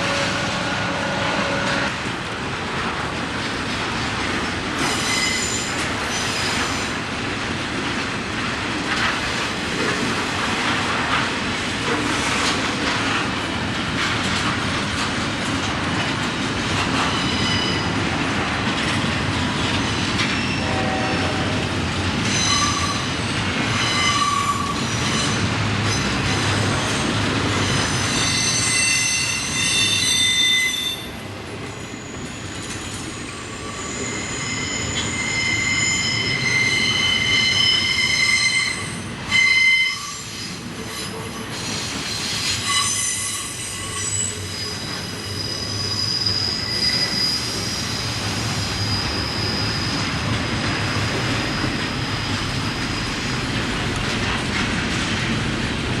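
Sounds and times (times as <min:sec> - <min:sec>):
train wheels squealing on rails: 0:00.0 - 0:02.1, 0:04.2 - 0:07.2, 0:08.9 - 0:55.1
rumble of train cars: 0:00.0 - 0:56.0.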